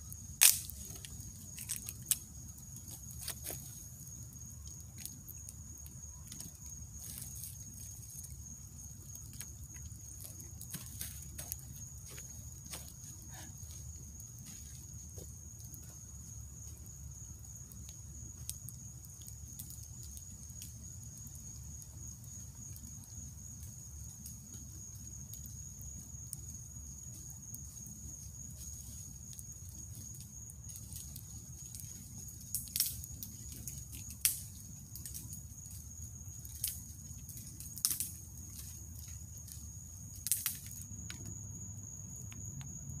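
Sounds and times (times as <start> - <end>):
campfire popping and crackling: 0.0 - 43.0
night insects trilling: 0.0 - 43.0.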